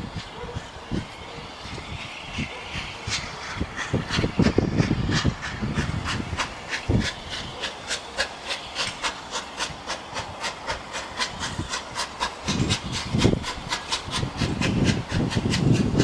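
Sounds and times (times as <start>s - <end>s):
steam locomotive exhaust chuffs: 0.0s - 16.0s.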